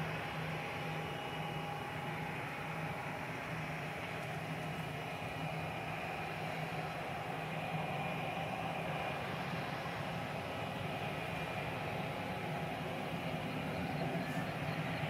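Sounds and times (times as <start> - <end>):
jet engines at takeoff power: 0.0 - 15.0.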